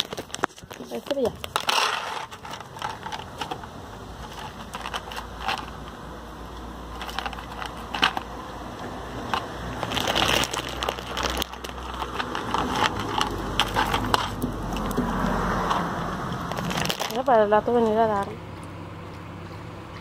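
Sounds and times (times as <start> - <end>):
plastic tubs clicking: 0.0 - 6.0, 6.9 - 17.9
puppy chewing and crunching: 0.0 - 20.0.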